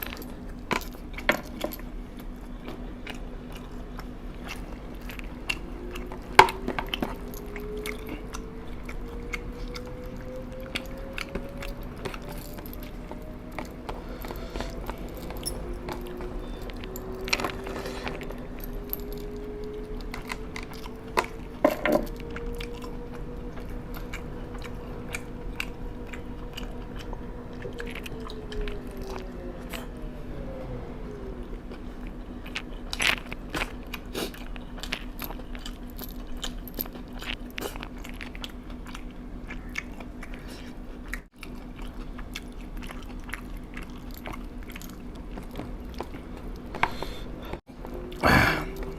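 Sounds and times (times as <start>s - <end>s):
person chewing food: 0.0s - 30.1s, 31.0s - 48.9s
steady low hum: 0.0s - 48.9s.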